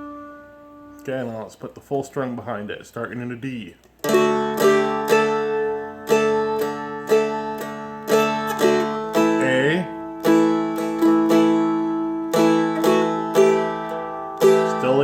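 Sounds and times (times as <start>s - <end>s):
dulcimer strummed: 0.0s - 1.5s, 4.0s - 15.0s.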